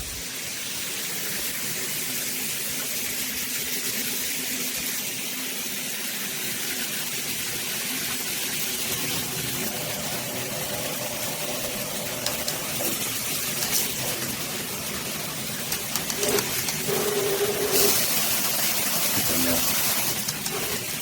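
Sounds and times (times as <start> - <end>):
shower spraying water: 0.0 - 21.0.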